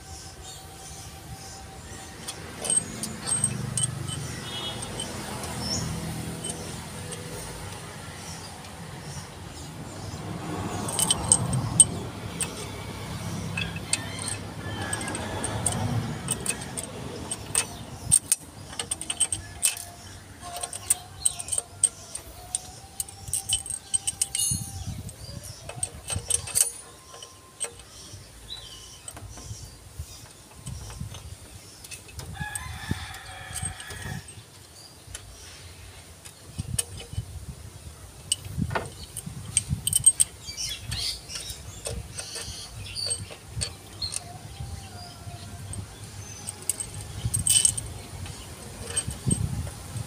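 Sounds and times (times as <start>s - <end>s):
metallic clinks of hand tools: 0.4s - 8.4s, 10.6s - 35.6s, 36.3s - 37.4s, 38.2s - 50.0s.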